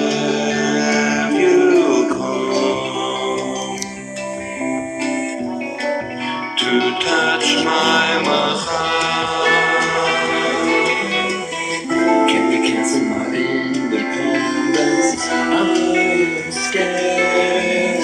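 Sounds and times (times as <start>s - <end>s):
instrumental song playing: 0.0s - 18.0s.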